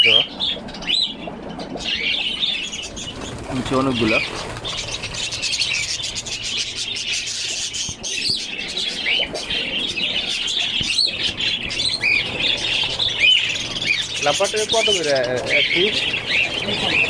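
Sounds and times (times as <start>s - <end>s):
parrots chirping and chattering: 0.0s - 17.0s.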